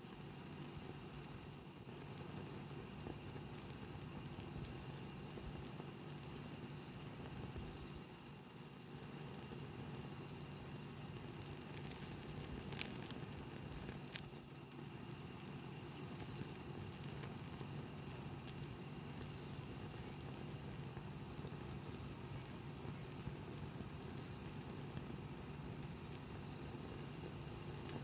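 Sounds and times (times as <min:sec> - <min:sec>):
campfire hissing: 0:00.0 - 0:28.0
fire popping: 0:00.1 - 0:28.0.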